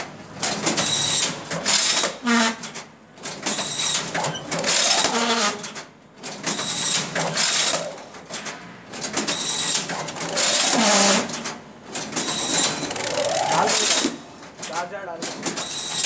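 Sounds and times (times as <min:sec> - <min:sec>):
strapping machine whirring and clacking: 0:00.0 - 0:16.0.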